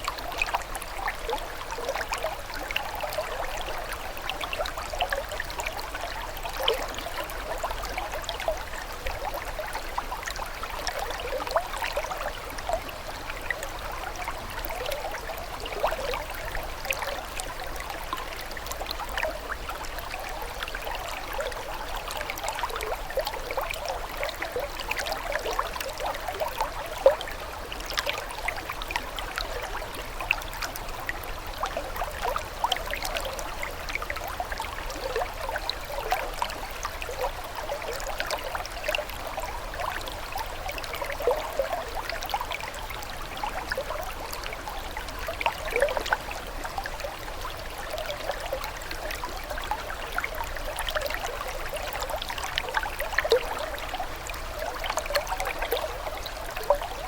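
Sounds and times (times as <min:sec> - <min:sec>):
water trickling and burbling: 0:00.0 - 0:57.0.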